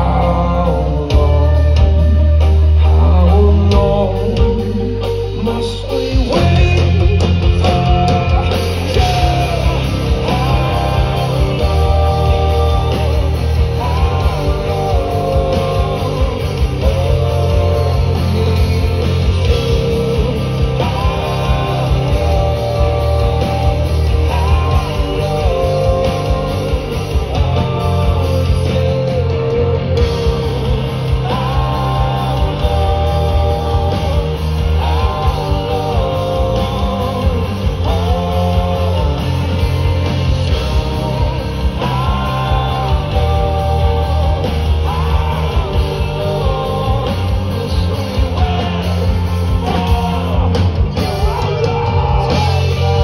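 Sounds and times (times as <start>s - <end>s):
guitars and bass: 0.0s - 53.0s
person singing: 0.0s - 53.0s.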